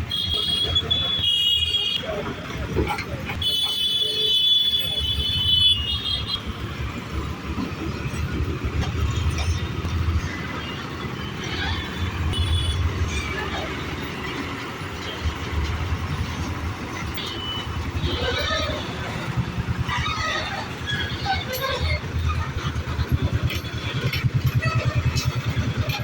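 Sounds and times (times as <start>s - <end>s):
heavy diesel engine rumbling: 0.0s - 26.0s
faint voices: 0.6s - 5.4s, 6.8s - 26.0s.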